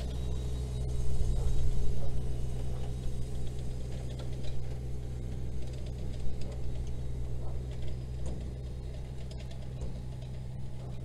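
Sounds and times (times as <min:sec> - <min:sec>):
small engine running under load: 0:00.0 - 0:11.0
light rattles and ticks: 0:02.1 - 0:11.0.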